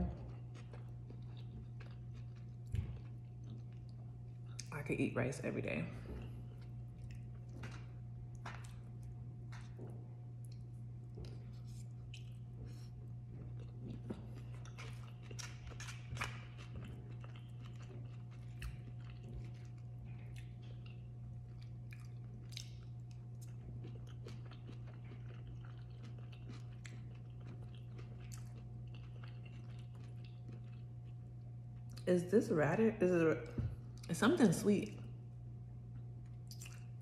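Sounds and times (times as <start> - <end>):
chewing with crunches: 0.0 - 4.8, 6.0 - 32.1, 35.8 - 37.0.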